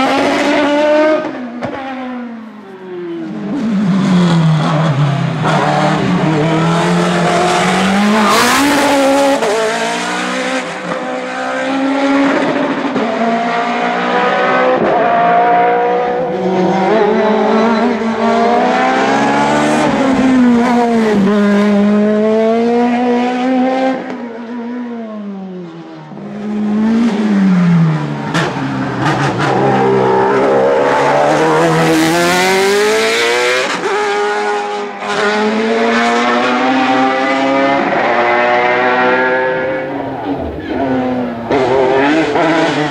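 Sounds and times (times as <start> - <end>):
race car engine accelerating: 3.2 - 24.2, 26.2 - 42.9.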